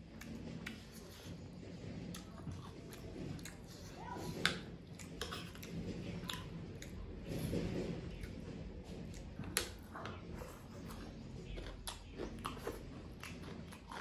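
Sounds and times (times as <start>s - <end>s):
person chewing with wet mouth noises: 0.0s - 7.2s, 9.0s - 14.0s.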